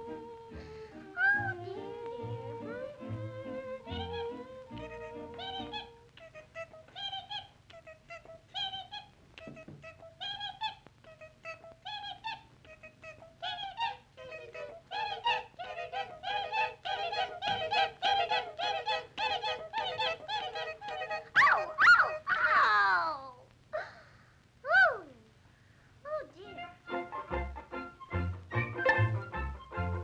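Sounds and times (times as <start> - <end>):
cartoon bees' sing-song voices: 0.0 - 23.3, 26.1 - 27.0.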